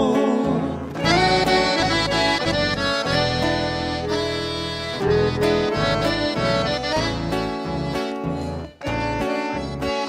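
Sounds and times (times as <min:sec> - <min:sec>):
bass: 0:00.0 - 0:10.0
guitar: 0:00.0 - 0:10.0
keyboard: 0:00.0 - 0:10.0
accordion playing: 0:00.9 - 0:10.0.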